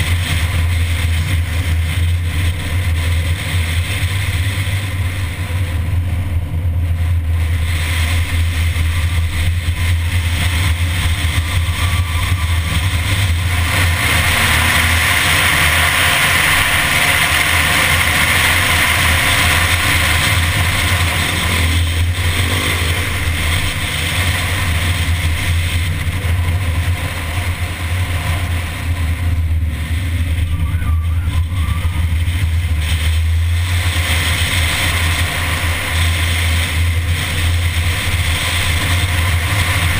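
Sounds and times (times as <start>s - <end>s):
car engine drone: 0.0s - 39.9s
wind and road noise hiss: 0.0s - 39.9s.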